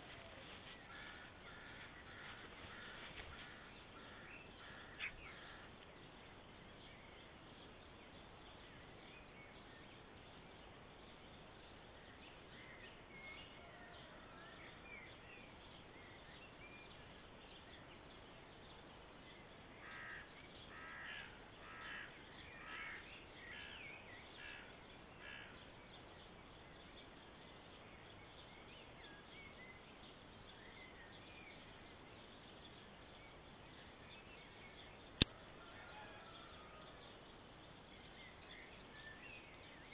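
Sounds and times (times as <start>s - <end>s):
faint songbird chirps: 0.0s - 39.9s.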